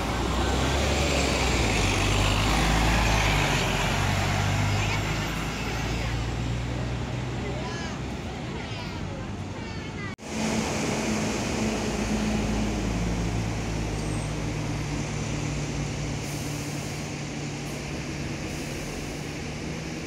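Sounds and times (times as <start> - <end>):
diesel bus engine idling: 0.0 - 20.0.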